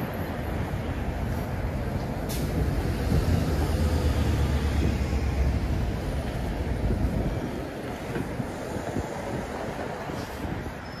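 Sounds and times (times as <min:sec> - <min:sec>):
vehicle passing rumble: 0:00.7 - 0:10.5.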